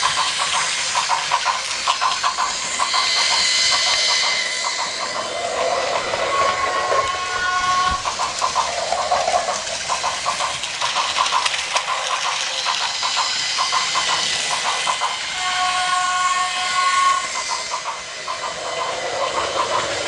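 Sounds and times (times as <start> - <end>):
toy train clattering on track: 0.0 - 20.0.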